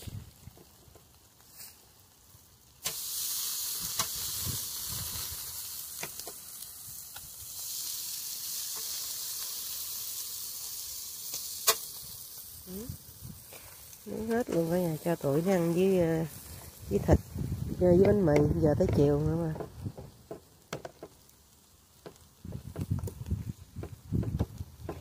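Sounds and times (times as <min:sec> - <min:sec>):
meat sizzling on a grill: 0:00.0 - 0:25.0.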